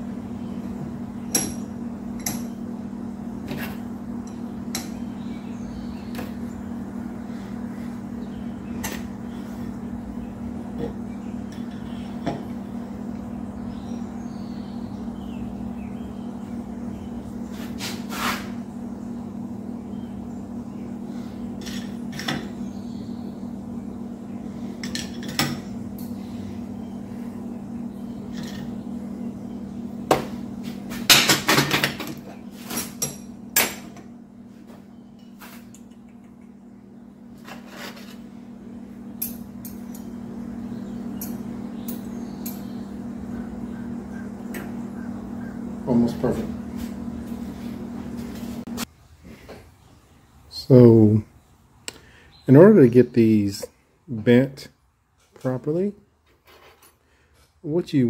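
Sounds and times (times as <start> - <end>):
steady low hum: 0.0 - 56.2.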